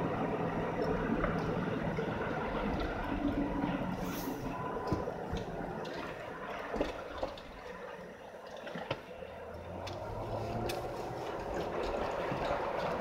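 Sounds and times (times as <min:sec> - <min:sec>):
tyres on slushy road: 0:00.0 - 0:13.0.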